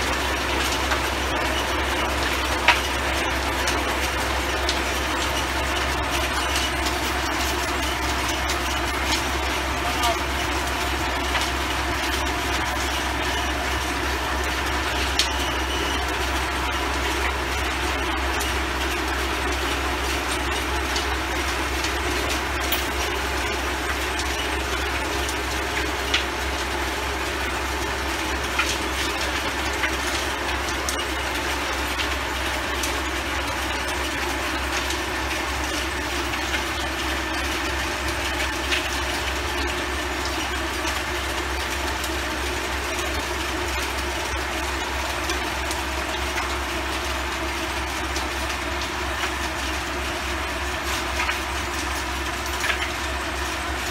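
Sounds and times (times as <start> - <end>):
rotavator churning soil: 0.0 - 53.9
tractor engine running: 0.0 - 53.9.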